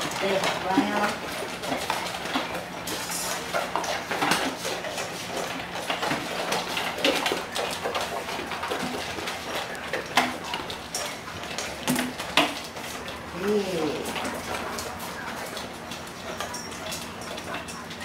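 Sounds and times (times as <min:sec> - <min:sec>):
dogs eating: 0:00.0 - 0:18.0
metal bowls clinking on wood: 0:03.5 - 0:18.0.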